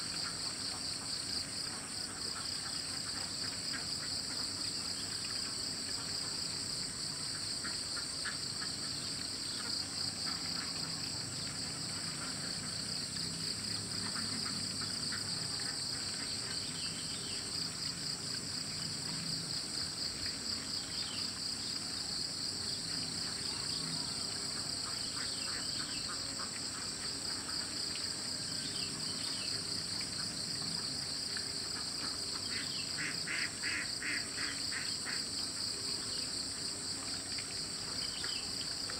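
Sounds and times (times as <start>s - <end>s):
shrill insect chorus: 0.0s - 38.9s.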